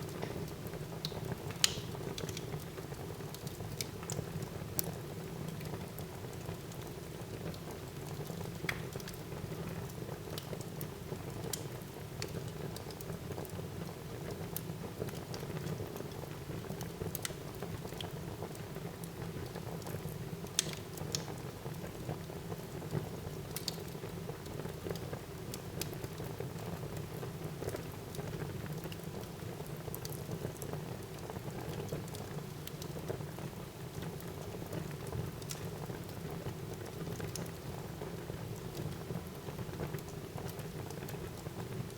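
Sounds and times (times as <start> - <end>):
wood fire crackling and popping: 0.0 - 13.6, 14.2 - 41.9.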